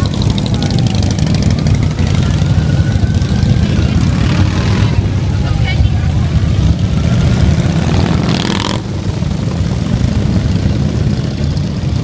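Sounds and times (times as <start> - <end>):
motorcycles rumbling past: 0.0 - 12.0.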